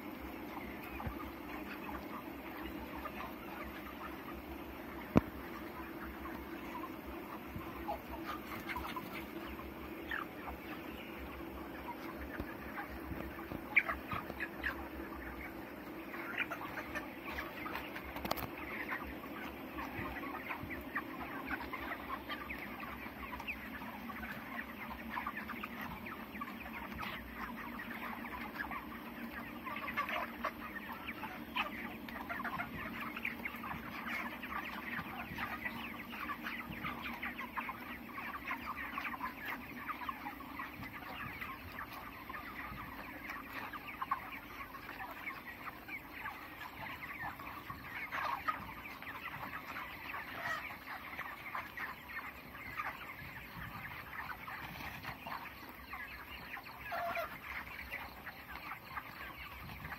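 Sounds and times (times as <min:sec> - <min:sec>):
flock of chickens clucking: 0:00.0 - 0:59.9.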